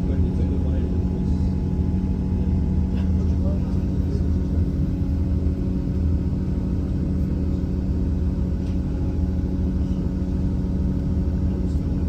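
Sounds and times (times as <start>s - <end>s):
train engine hum: 0.0s - 12.0s.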